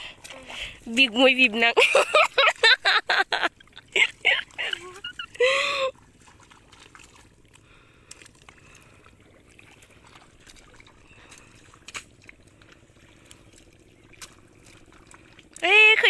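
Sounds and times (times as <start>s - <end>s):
small splashes: 0.0s - 16.0s
water and mud sloshing: 0.0s - 16.0s.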